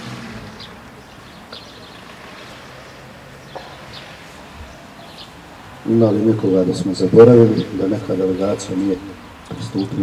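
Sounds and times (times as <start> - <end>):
small birds chirping: 0.4 - 10.0.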